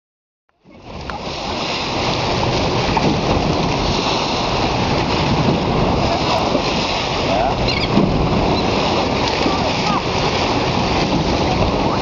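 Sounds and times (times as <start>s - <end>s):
sea water rushing past boat: 0.5s - 12.0s
wind buffeting microphone: 0.7s - 12.0s.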